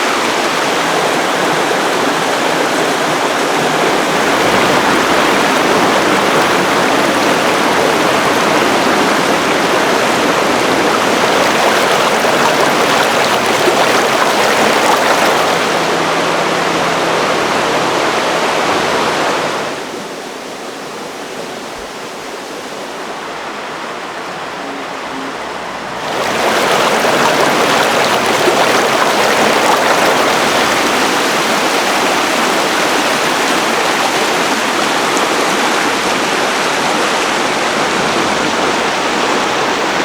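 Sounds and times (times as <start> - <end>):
mountain stream rushing: 0.0 - 40.0.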